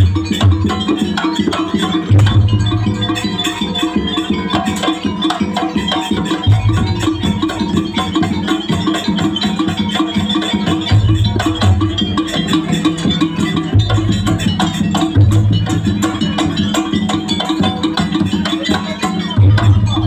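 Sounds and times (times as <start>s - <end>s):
fast dense drumming: 0.0s - 20.0s
struck pitched percussion: 0.0s - 20.0s.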